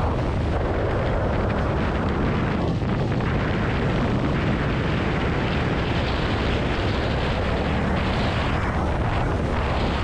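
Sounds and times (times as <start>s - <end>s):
motorcycle engine rumble: 0.0s - 10.0s
wind rushing over microphone: 0.0s - 10.0s.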